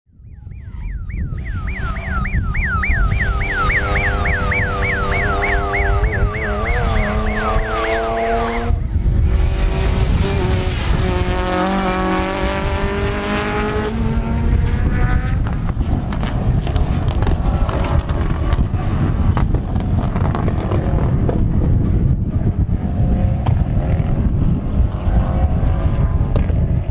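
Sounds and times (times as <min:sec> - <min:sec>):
wind noise on microphone: 0:00.1 - 0:26.9
rally car engines revving: 0:01.4 - 0:26.9.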